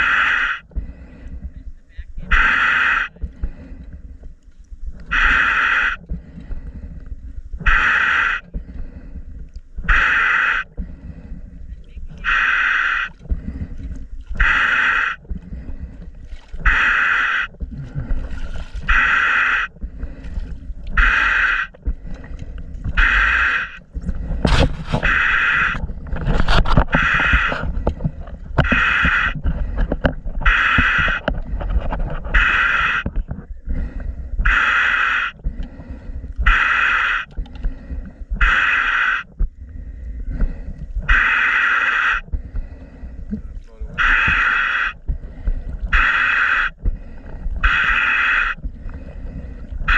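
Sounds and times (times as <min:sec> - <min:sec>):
hissing regulator breaths: 0:00.0 - 0:01.5, 0:02.3 - 0:04.2, 0:05.1 - 0:11.6, 0:12.2 - 0:49.9
underwater bubbling and rumbling: 0:00.0 - 0:49.9.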